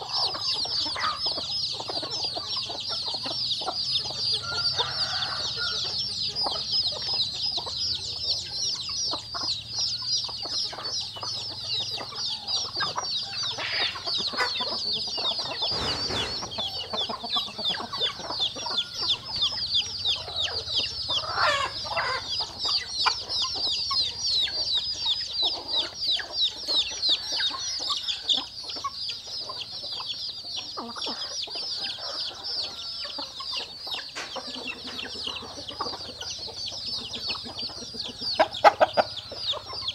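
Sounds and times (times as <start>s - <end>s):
chicks peeping: 0.0s - 39.9s
hens clucking: 0.0s - 39.9s.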